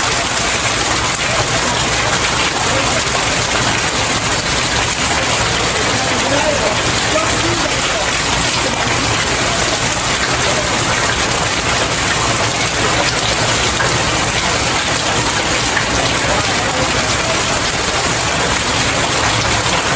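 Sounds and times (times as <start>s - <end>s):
rain pattering on stairs: 0.0s - 19.9s.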